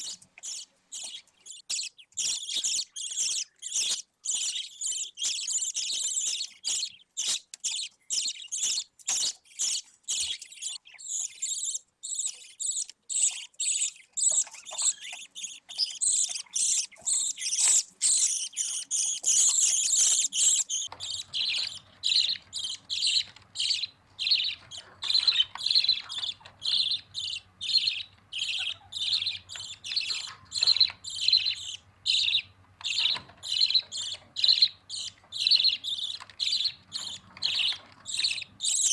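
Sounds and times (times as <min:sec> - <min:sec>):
budgerigar chicks chirping: 0:00.0 - 0:38.9.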